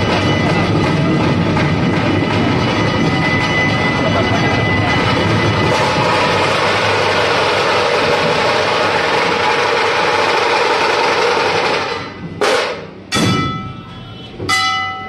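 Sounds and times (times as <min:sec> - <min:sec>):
large drums beaten with sticks: 0:00.0 - 0:14.6.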